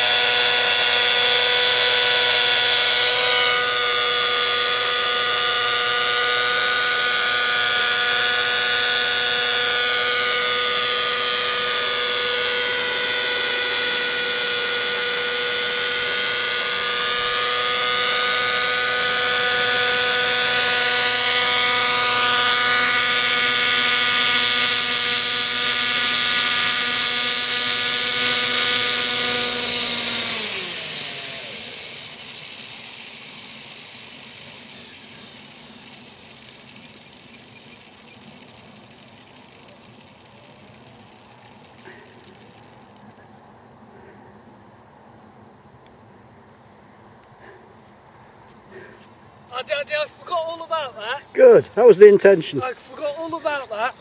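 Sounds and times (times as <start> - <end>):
helicopter rotor: 0.0 - 54.0
model helicopter engine whine: 0.0 - 54.0.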